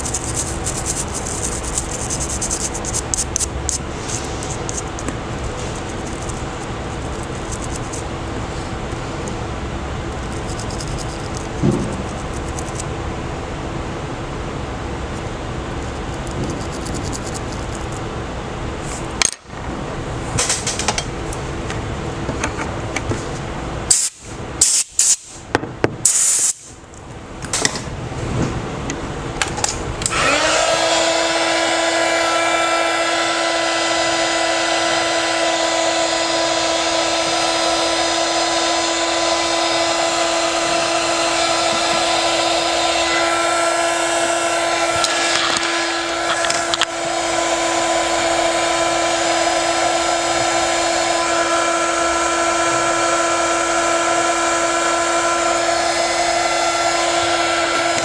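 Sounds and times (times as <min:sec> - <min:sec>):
steady high whine: 0:00.0 - 0:58.0.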